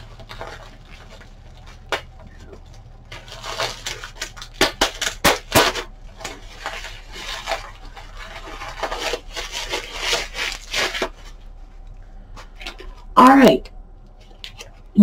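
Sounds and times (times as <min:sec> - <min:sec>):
packaging rustling and crinkling: 0:00.0 - 0:13.2, 0:14.1 - 0:15.0.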